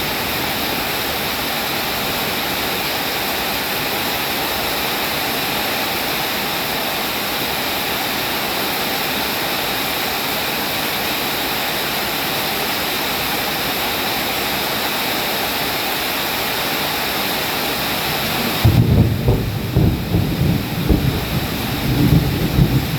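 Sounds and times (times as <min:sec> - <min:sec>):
heavy rain hissing: 0:00.0 - 0:22.9.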